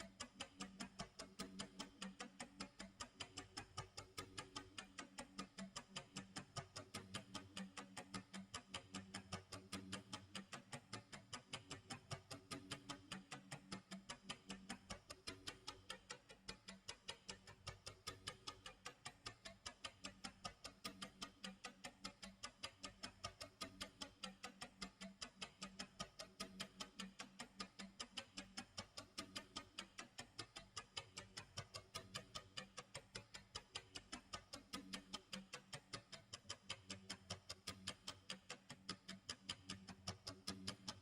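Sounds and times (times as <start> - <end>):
clock ticking: 0.0 - 41.0.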